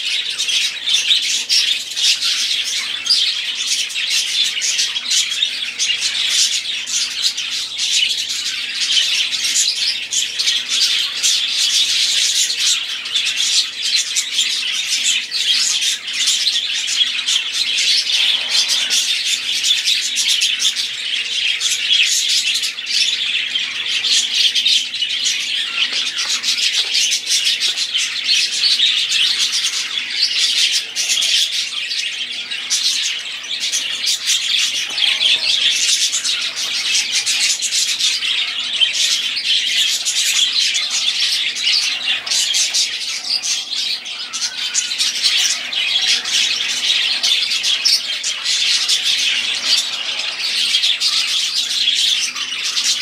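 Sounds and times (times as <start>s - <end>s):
budgerigars chattering: 0.0s - 53.0s.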